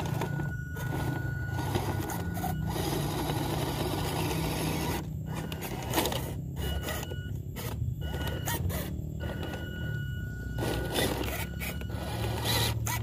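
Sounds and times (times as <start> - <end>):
grinding scraping noise: 0.0 - 13.0
toy car motor and gearbox running: 0.0 - 13.0.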